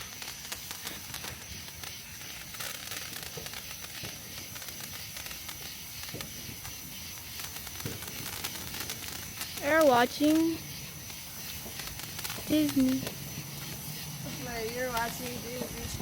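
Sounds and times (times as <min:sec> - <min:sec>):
firework hissing and crackling: 0:00.0 - 0:16.0.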